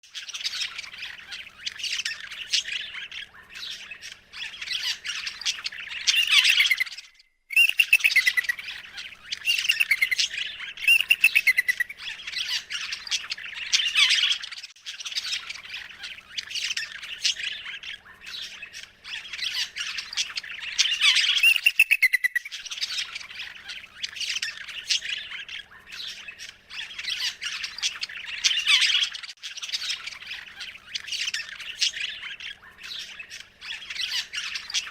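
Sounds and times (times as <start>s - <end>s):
birds squawking and chirping: 0.1s - 34.9s.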